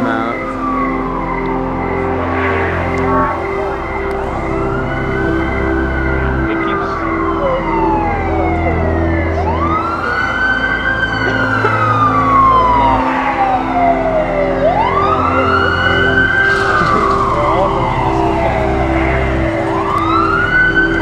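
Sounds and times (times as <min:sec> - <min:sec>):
low synthesizer chords: 0:00.0 - 0:21.0
wailing siren: 0:00.0 - 0:21.0.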